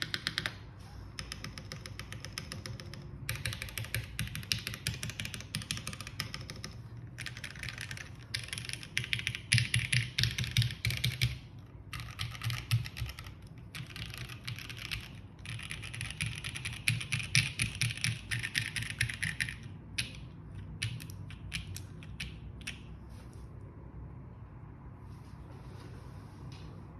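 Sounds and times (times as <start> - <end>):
fast typing on mechanical keyboard: 0.0 - 22.8.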